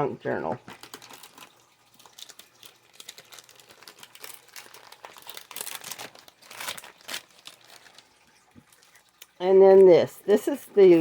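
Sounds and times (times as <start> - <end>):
packaging and paper crinkling: 0.5 - 9.4.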